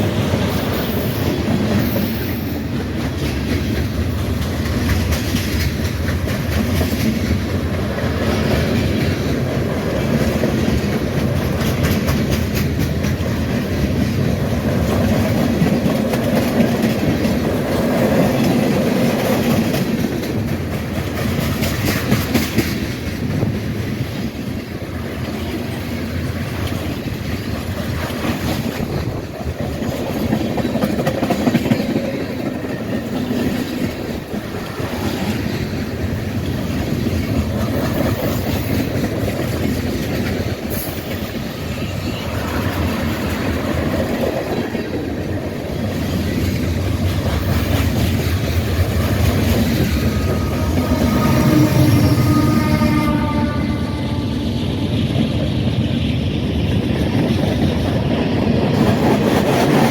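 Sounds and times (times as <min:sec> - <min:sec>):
low rumble of train: 0:00.0 - 0:59.9
train wheels clickety-clack: 0:00.0 - 0:59.9.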